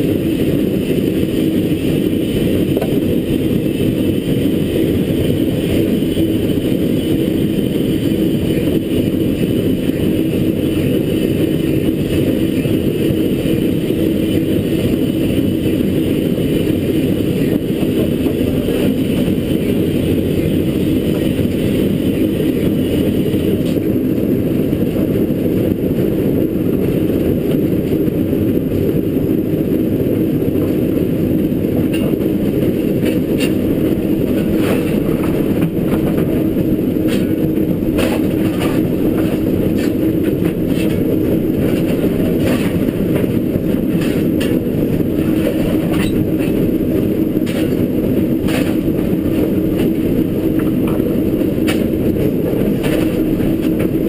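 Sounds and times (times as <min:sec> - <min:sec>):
steam locomotive rumble: 0:00.0 - 0:54.0.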